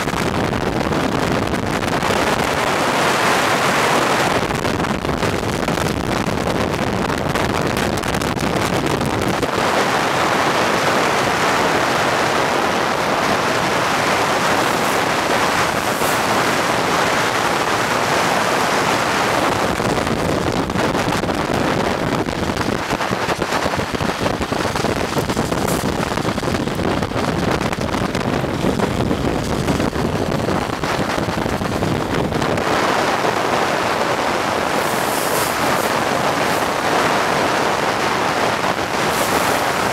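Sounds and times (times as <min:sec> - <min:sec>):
wheels rolling on asphalt: 0:00.0 - 0:39.9
wind rushing over microphone: 0:00.0 - 0:39.9.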